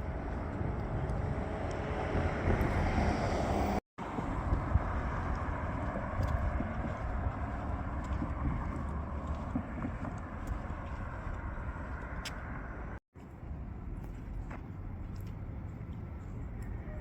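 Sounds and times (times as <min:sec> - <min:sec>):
motor vehicle passing rumble: 0:00.0 - 0:17.0.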